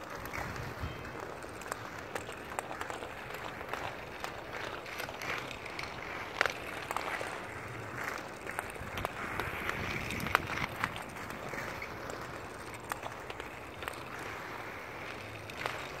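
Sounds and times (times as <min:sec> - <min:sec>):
skate wheels rolling on asphalt: 0:00.0 - 0:16.0.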